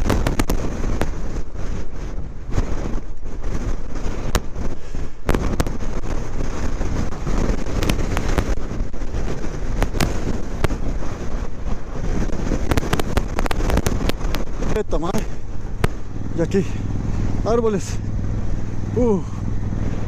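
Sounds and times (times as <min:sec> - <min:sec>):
sharp crackles and pops: 0:00.0 - 0:18.8
wind buffeting microphone: 0:00.0 - 0:20.0.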